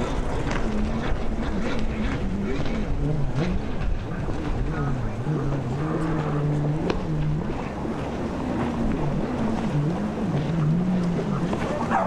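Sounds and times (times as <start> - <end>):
watercraft engines revving: 0.0 - 12.0
wind noise on microphone: 0.0 - 12.0.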